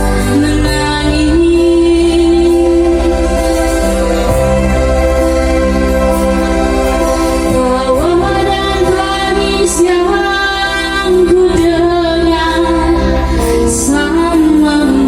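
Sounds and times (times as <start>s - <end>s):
instrumental backing with bass line: 0.0s - 15.0s.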